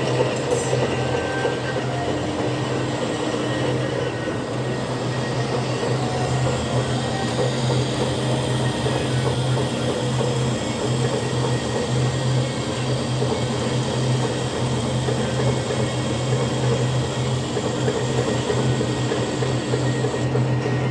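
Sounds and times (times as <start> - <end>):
metal lathe humming: 0.0 - 20.9.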